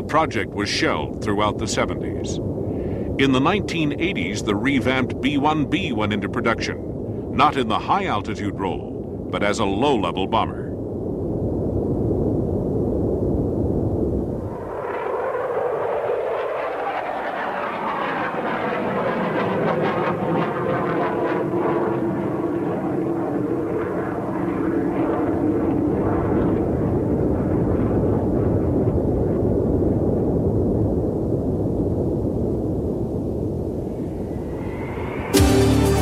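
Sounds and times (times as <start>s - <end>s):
jet bomber flying past: 0.0s - 36.0s.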